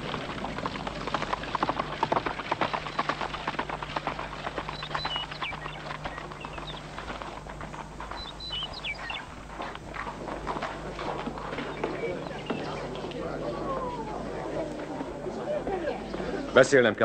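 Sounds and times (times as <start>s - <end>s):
birds chirping: 0.0s - 17.0s
horse hooves clip-clopping: 0.0s - 17.0s
steady low hum: 0.0s - 17.0s.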